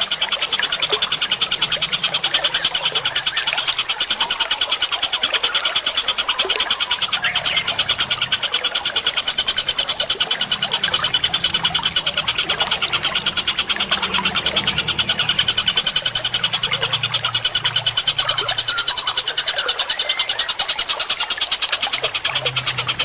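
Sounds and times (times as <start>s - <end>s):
birds chattering: 0.0s - 23.0s
running water: 0.0s - 23.0s.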